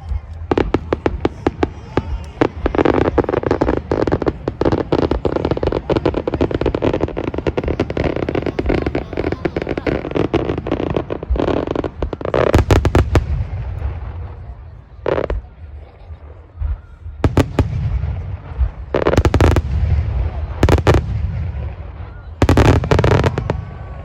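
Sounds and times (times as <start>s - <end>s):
fireworks crackling pops: 0.0s - 24.0s
fireworks loud bangs: 0.0s - 24.0s.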